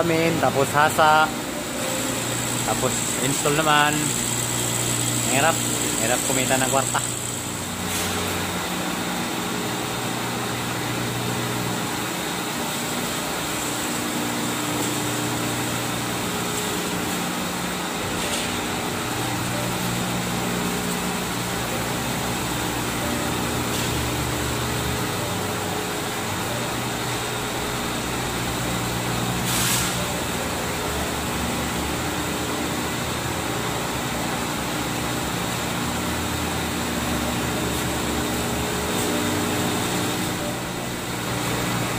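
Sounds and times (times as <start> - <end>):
glass polishing machine hum and whine: 0.0 - 41.9.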